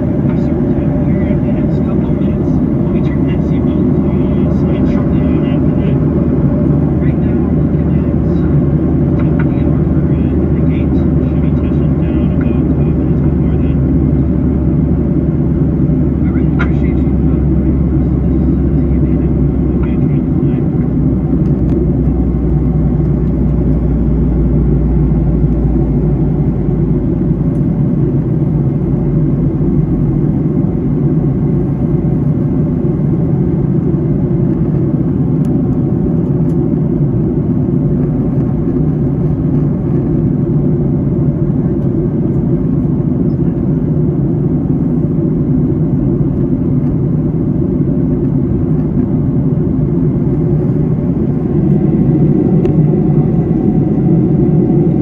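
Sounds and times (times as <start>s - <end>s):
airplane cabin roar: 0.0s - 55.0s
deep rumble: 0.0s - 55.0s.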